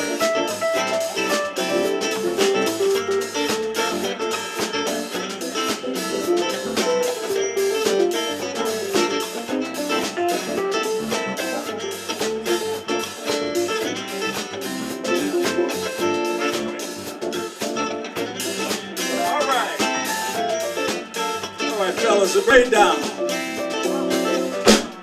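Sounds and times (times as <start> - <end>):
live band playing instrumental: 0.0 - 25.0.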